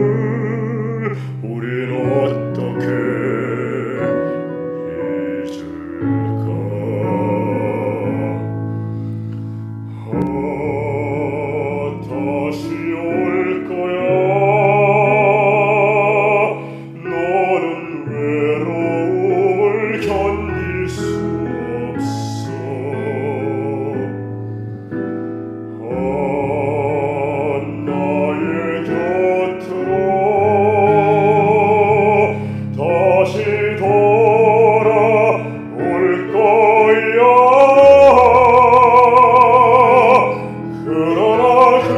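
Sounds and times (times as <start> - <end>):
man singing operatic ballad: 0.0 - 41.9.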